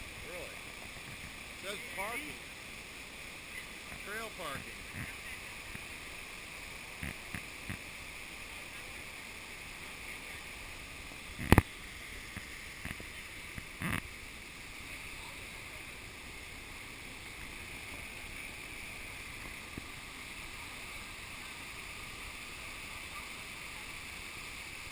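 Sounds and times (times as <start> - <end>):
waterfall rushing over boulders: 0.0 - 24.9.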